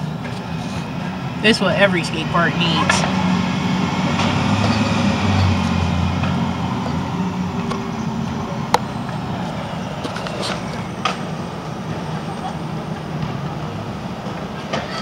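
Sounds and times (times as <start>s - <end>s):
city traffic noise: 0.0s - 15.0s
low vehicle rumble: 0.0s - 15.0s.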